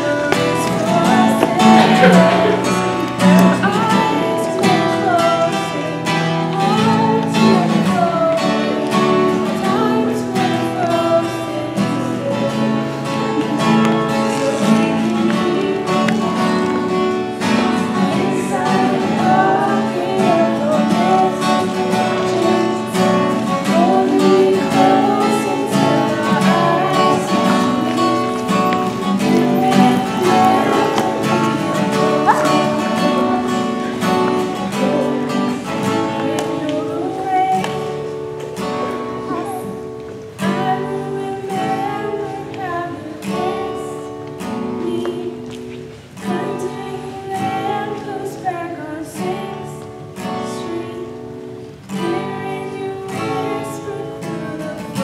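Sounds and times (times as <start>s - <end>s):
acoustic guitar: 0.0s - 55.0s
woman singing: 0.0s - 55.0s.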